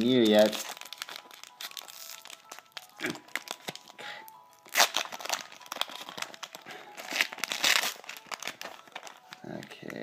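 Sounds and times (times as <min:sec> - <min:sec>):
background music: 0:00.0 - 0:10.0
foil wrapper crinkling and tearing: 0:00.0 - 0:10.0.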